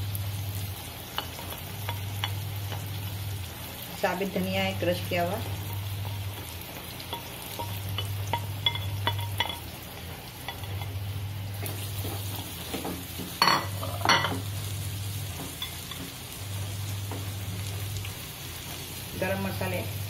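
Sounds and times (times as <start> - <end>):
food frying in oil: 0.0 - 20.0.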